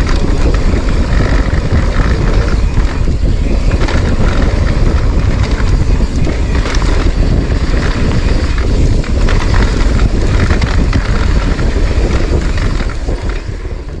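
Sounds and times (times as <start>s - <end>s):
bike clicks and rattles: 0.0s - 14.0s
tyres on loose dirt: 0.0s - 14.0s
wind rumbling on microphone: 0.0s - 14.0s.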